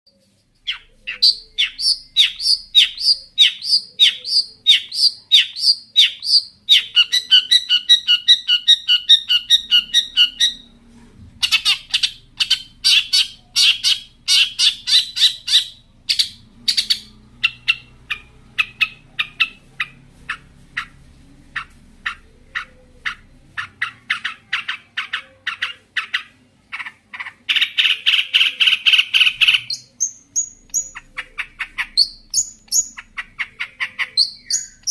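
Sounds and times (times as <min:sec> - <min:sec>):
shrike singing with mimicked calls: 0:00.6 - 0:10.7, 0:11.4 - 0:34.9.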